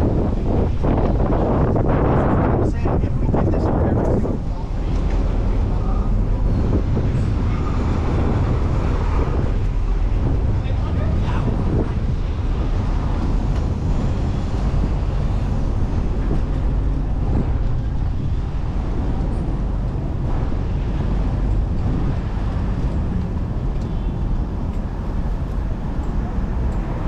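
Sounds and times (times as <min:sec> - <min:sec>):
city road traffic: 0:00.0 - 0:27.0
wind rumbling on microphone: 0:00.0 - 0:27.0.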